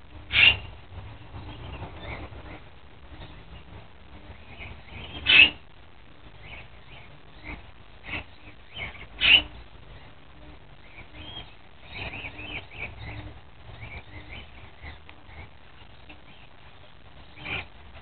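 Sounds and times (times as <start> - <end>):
parrots chirping and squawking: 0.3 - 3.6, 4.3 - 5.6, 6.4 - 10.2, 10.8 - 16.6, 17.2 - 17.8.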